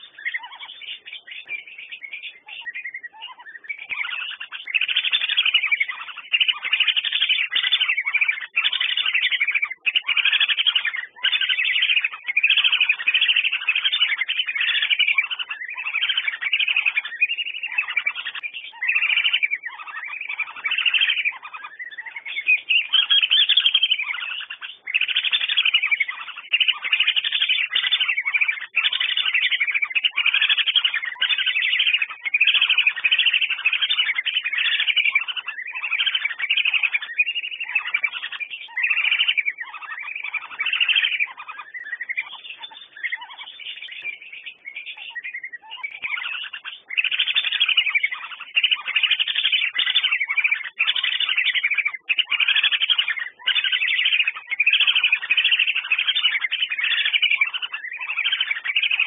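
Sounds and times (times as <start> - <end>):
whistling ducks calling: 0.0 - 59.0.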